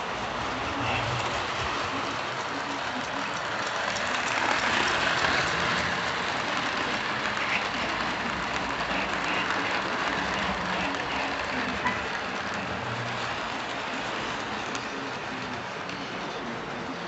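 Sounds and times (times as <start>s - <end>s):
model train wheels rattling: 0.8s - 16.7s.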